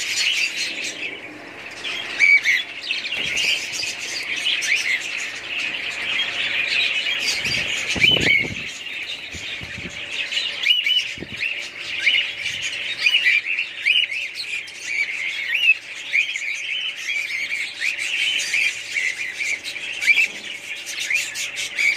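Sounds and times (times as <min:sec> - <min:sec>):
budgerigars chirping: 0:00.0 - 0:21.9.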